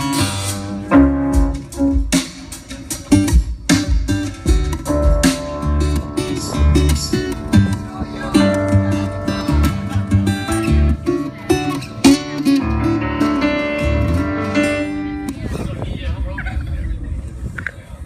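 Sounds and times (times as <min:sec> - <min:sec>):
acoustic guitar strumming: 0:00.0 - 0:15.3
electric guitar: 0:00.0 - 0:15.7
drums keeping a steady beat: 0:00.0 - 0:15.9
bass guitar: 0:00.0 - 0:17.7.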